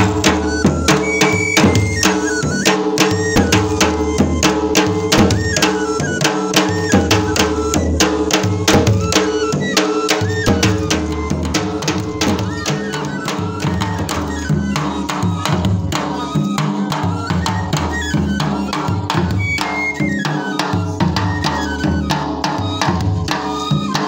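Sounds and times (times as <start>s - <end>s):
folk drums beating fast rhythm: 0.0s - 24.0s.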